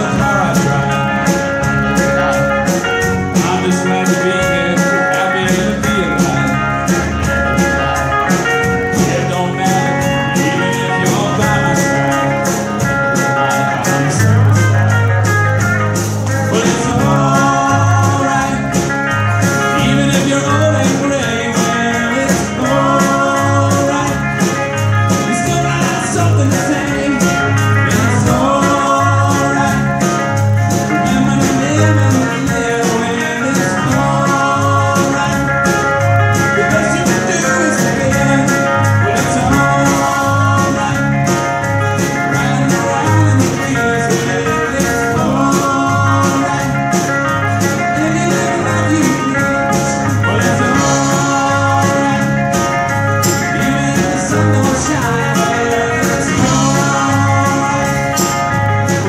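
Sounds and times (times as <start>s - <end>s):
bass guitar low notes: 0.0s - 59.0s
live band playing: 0.0s - 59.0s
ticking beat: 0.0s - 59.0s.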